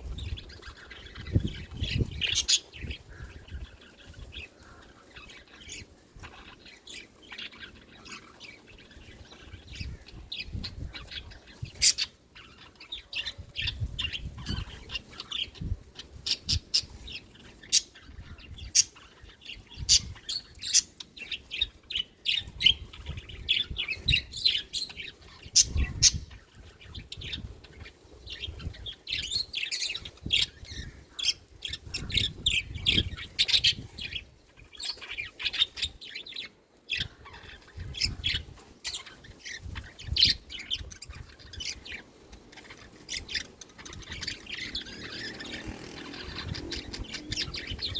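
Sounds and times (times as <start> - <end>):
budgerigars chirping: 0.1 - 34.2, 36.9 - 47.9.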